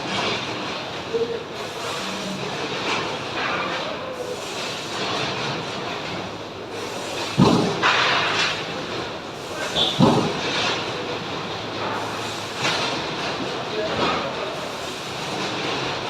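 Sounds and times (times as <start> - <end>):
factory machinery din: 0.0 - 16.0.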